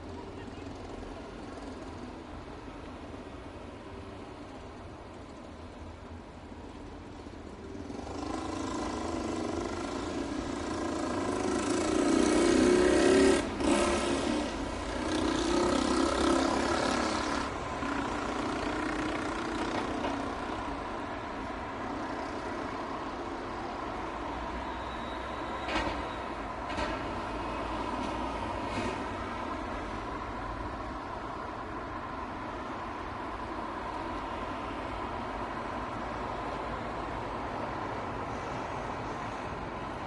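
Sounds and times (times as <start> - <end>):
steady traffic hum: 0.0 - 40.0.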